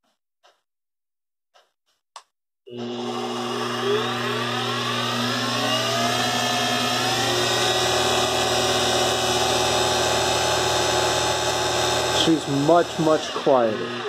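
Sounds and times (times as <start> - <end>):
milling machine drive whine: 2.7 - 14.0.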